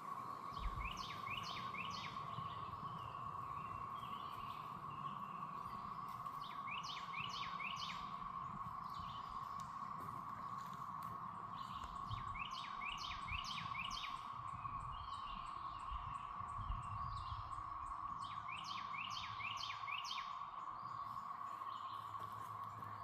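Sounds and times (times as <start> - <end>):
cicada chorus drone: 0.0 - 23.0
songbird chirping: 0.0 - 23.0.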